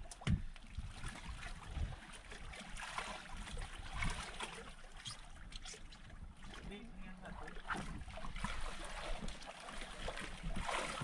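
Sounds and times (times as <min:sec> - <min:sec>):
feet kicking in water: 0:00.0 - 0:05.7, 0:07.3 - 0:11.0
water splashing against boat: 0:00.0 - 0:11.0.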